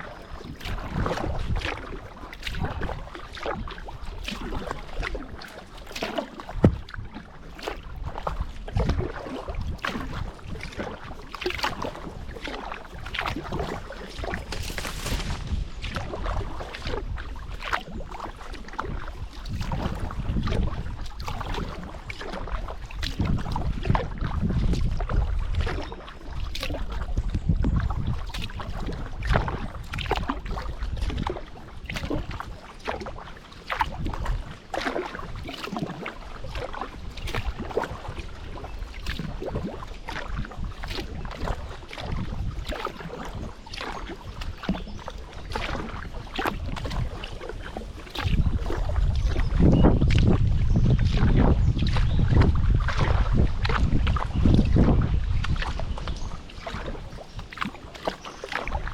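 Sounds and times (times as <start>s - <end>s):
paddle splashing in water: 0.0s - 58.9s
water trickling off paddle: 0.0s - 58.9s
wind rumble on microphone: 0.0s - 58.9s.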